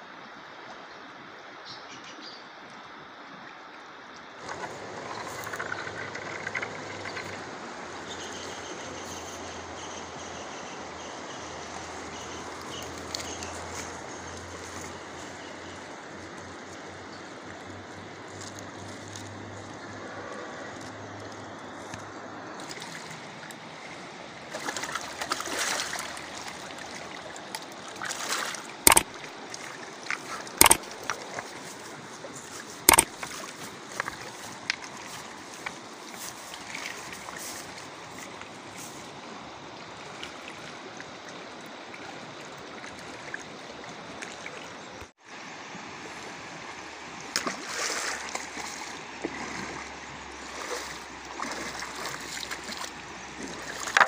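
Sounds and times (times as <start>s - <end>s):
river water rushing over stones: 2.8s - 9.8s, 10.8s - 54.0s.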